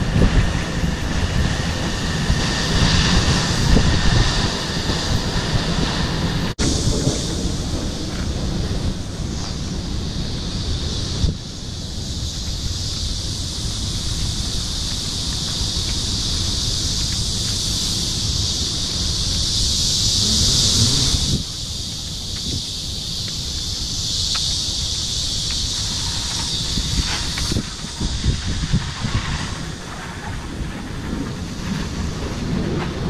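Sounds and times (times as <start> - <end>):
cicadas shrilling: 0.0 - 33.0
wind rumbling on microphone: 0.0 - 33.0.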